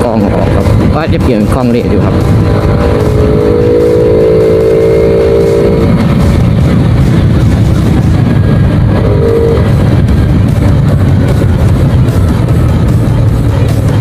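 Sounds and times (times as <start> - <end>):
motorcycle engine running: 0.0 - 14.0
wind rumble on microphone: 0.0 - 14.0.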